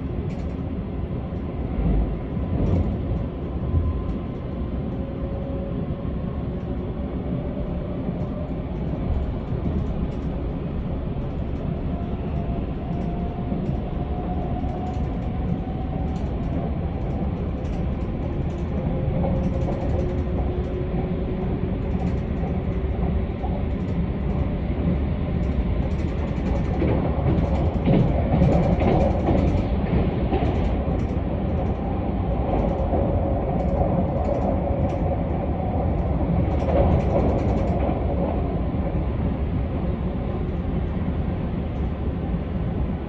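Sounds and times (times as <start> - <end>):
electric train rumbling: 0.0 - 43.0.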